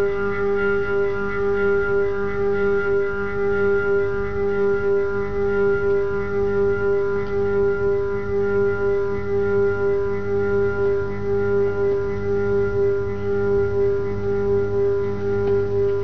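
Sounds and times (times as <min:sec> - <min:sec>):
droning held chord: 0:00.0 - 0:16.0.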